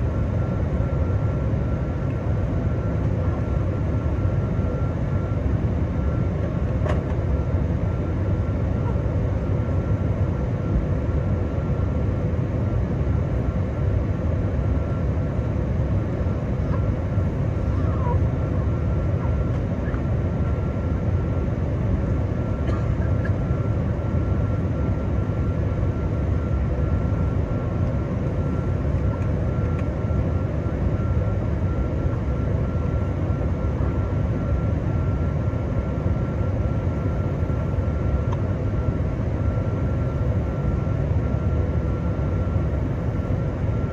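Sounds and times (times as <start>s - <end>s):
faint steady whine: 0.0s - 43.9s
jet engines droning: 0.0s - 43.9s.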